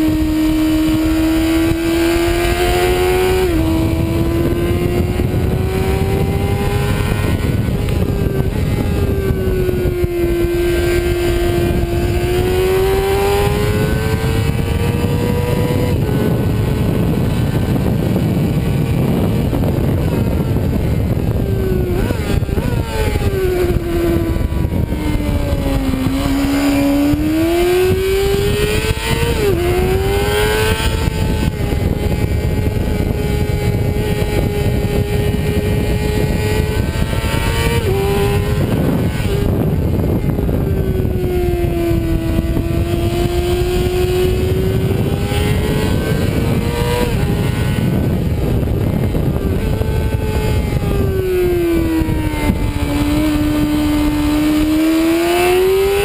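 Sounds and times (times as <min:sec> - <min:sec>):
motorcycle engine revving: 0:00.0 - 0:56.0
wind rush: 0:00.0 - 0:56.0.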